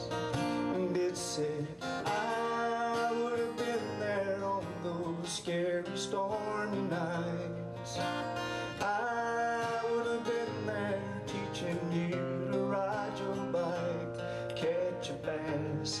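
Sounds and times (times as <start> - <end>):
acoustic guitar strummed: 0.0 - 16.0
man singing country ballad: 0.0 - 16.0.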